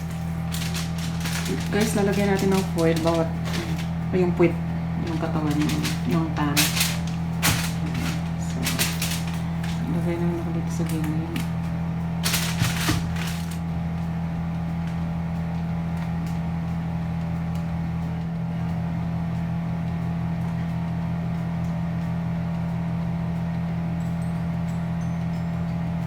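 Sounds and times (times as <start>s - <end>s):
kitchen appliance humming: 0.0s - 26.0s.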